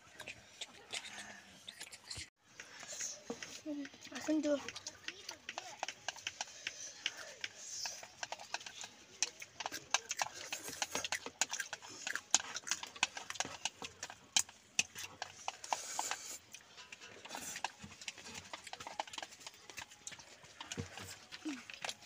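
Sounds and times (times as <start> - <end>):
chewing: 0.0 - 22.0
chopsticks clicking on plastic bowls: 2.6 - 22.0.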